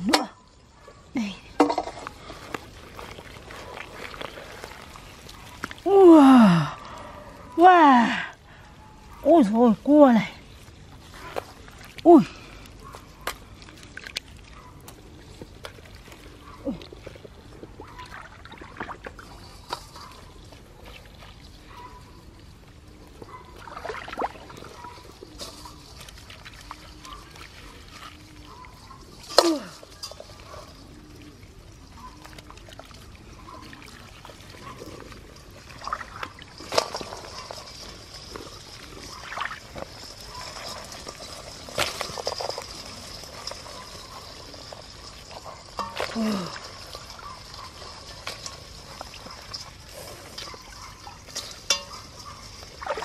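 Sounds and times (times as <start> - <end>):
hands squelching through wet mud: 2.0 - 7.9, 10.4 - 53.0.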